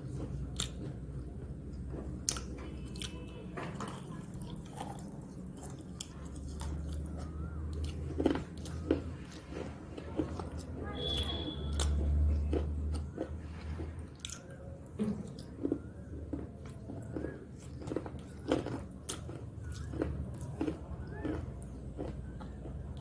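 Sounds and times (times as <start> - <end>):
soft wet chewing: 0.0 - 23.0
crunching snack sticks: 1.9 - 23.0.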